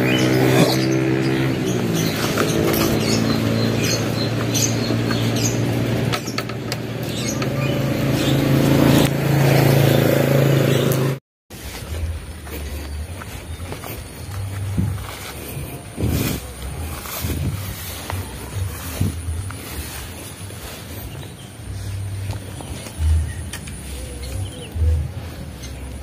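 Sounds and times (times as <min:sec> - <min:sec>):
birds chirping: 0:00.0 - 0:26.0
scooter engine idling: 0:00.0 - 0:26.0.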